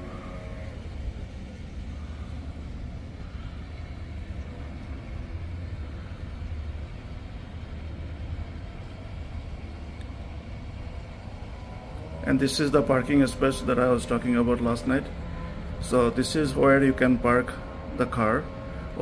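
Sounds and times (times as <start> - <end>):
distant road traffic rumble: 0.0 - 19.0.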